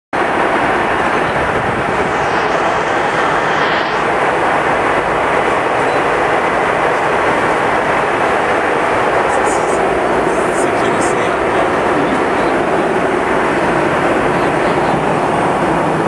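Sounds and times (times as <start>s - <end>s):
airliner cabin engine rush: 0.2s - 16.0s.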